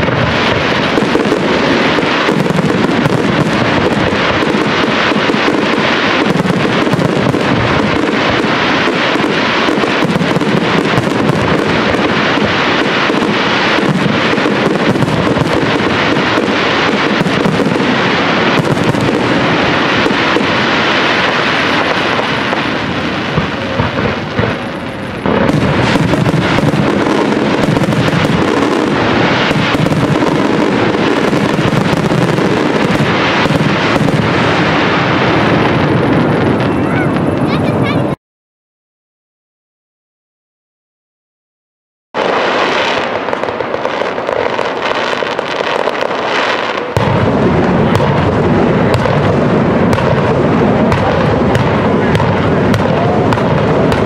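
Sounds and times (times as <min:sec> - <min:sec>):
fireworks bursting and crackling: 0:00.0 - 0:38.2, 0:42.2 - 0:54.0.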